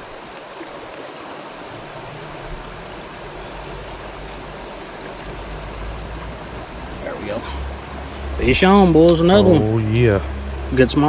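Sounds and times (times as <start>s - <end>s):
river water rushing: 0.0s - 11.0s
low rumble: 1.7s - 10.9s.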